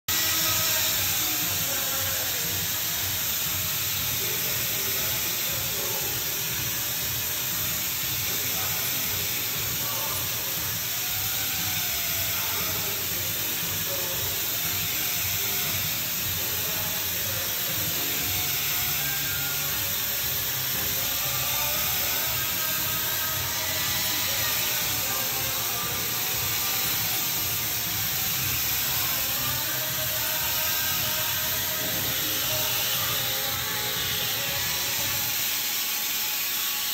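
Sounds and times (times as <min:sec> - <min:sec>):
background music: 0:00.1 - 0:35.6
disc sander grinding stone: 0:00.1 - 0:36.9.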